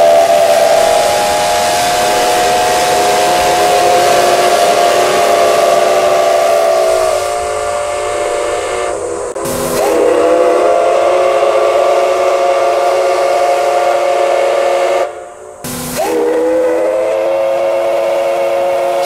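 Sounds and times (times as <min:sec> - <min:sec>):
steam hissing: 0:00.0 - 0:19.0
steam locomotive chime whistle: 0:00.0 - 0:19.0.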